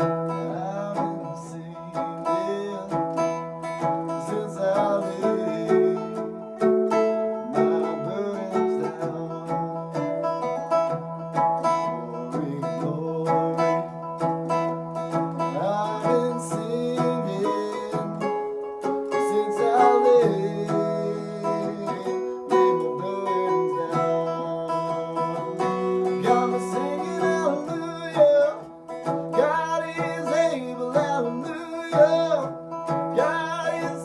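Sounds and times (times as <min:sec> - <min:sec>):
plucked guitar with pitch slides: 0:00.0 - 0:34.0.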